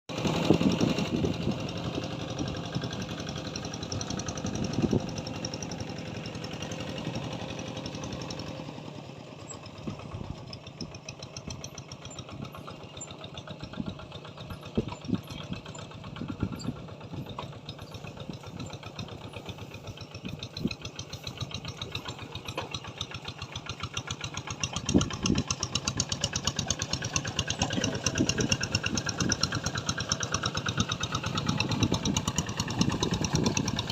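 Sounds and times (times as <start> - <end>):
small engine running: 0.1 - 33.9.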